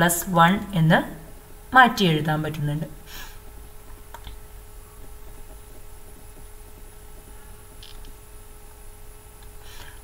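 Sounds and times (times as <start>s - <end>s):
faint whine: 0.0s - 10.0s
low electrical hum: 0.0s - 10.0s.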